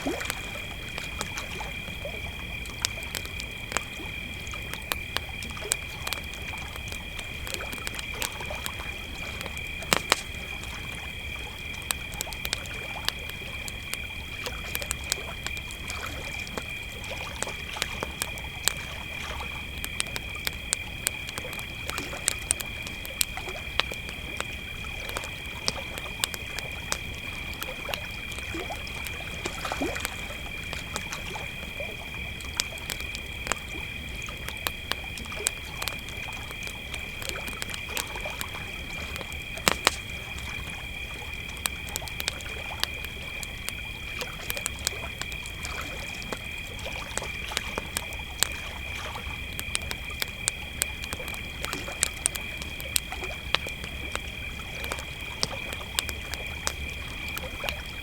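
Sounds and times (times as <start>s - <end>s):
campfire crackling and popping: 0.0s - 58.0s
crickets chirring: 0.0s - 58.0s.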